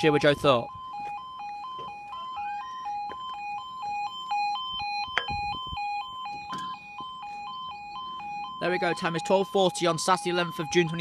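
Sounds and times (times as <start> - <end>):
level crossing two-tone alarm: 0.0 - 11.0.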